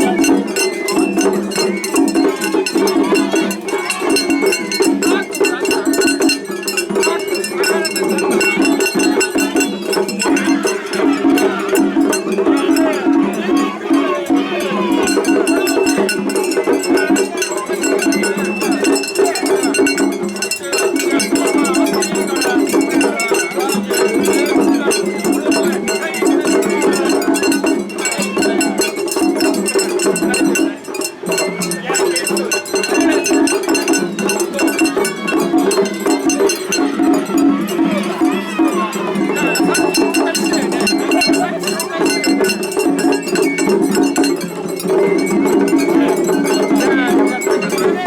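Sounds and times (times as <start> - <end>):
drums: 0.0 - 48.0
festival music: 0.0 - 48.0.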